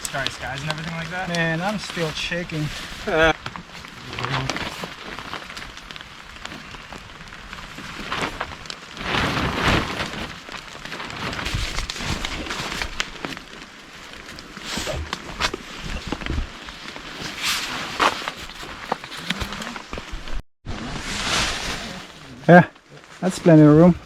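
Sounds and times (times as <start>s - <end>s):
rain spattering on surfaces: 0.0s - 17.8s, 21.8s - 24.0s.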